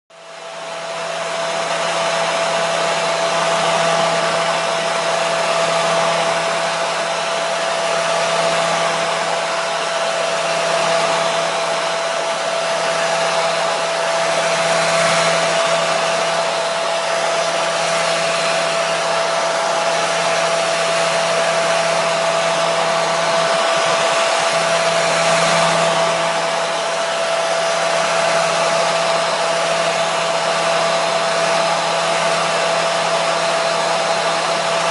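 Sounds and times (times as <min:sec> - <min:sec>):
hair dryer running: 0:00.1 - 0:34.9.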